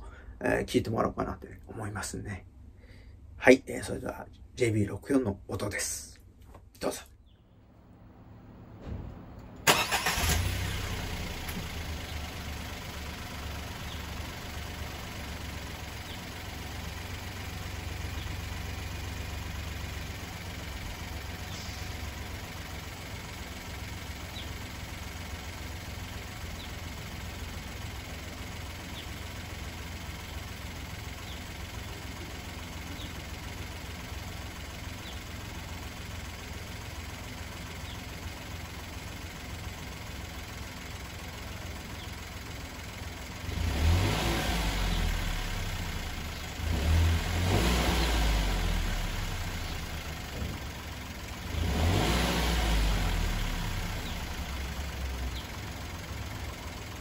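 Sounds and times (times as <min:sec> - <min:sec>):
car engine starting and idling: 0:07.2 - 0:57.0.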